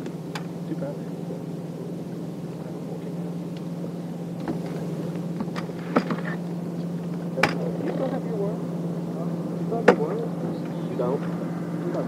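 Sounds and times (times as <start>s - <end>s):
electric trolling motor humming: 0.0s - 12.0s.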